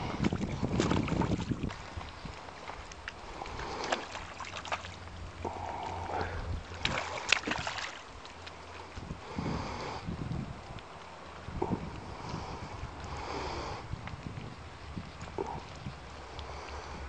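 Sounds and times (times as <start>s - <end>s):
wind on microphone: 0.0s - 4.1s, 5.2s - 8.2s, 8.8s - 17.0s
river water flowing: 0.0s - 13.9s, 14.7s - 17.0s.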